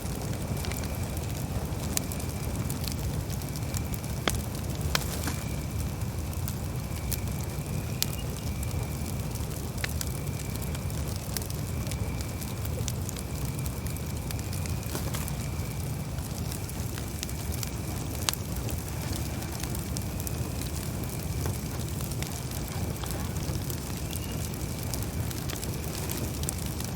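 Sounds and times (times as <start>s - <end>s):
campfire burning: 0.0s - 26.9s
fire crackles and pops: 0.0s - 26.9s.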